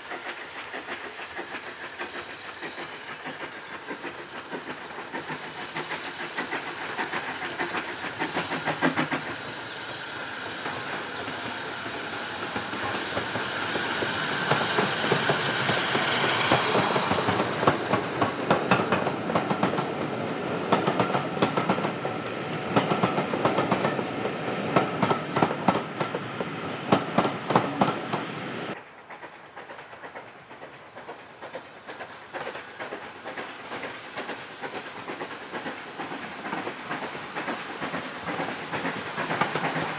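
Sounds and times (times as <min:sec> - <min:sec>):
coach wheels clicking over rail joints: 0:00.0 - 0:28.4, 0:29.0 - 0:39.9
steam train running past: 0:00.0 - 0:39.9.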